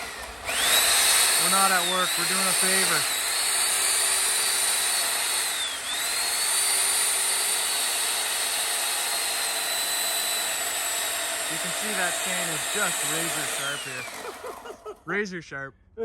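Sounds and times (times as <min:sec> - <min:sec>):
electric chainsaw cutting wood: 0:00.0 - 0:15.0.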